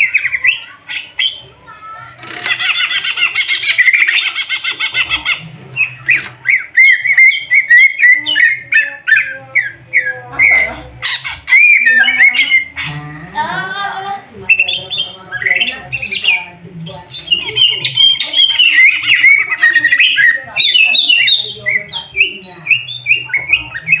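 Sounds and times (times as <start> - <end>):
harsh rasping bird chatter: 0.0 - 13.2, 14.4 - 24.0.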